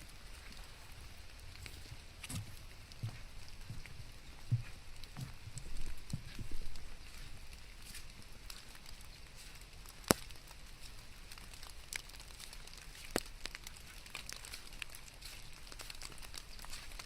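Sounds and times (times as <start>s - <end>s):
rain hiss: 0.0s - 17.0s
raindrops ticking: 0.0s - 17.0s.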